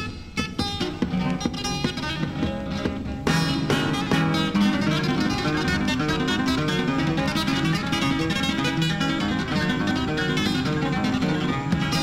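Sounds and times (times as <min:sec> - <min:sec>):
flamenco acoustic guitar: 0:00.0 - 0:12.0.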